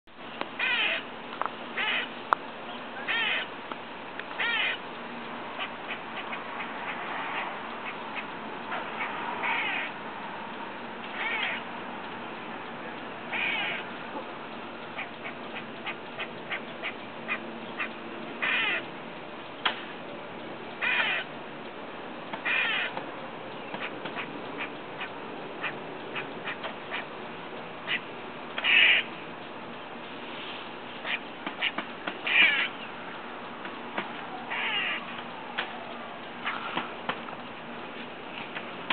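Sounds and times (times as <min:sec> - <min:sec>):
squirrel calling: 0:00.4 - 0:38.9.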